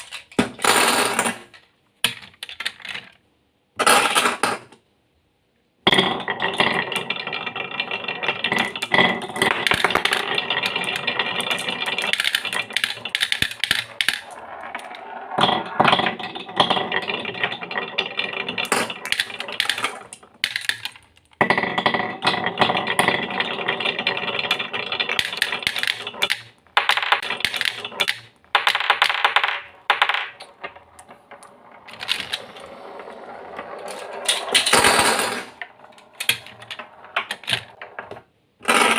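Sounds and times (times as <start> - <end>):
marbles clattering down a track: 5.9 - 38.9.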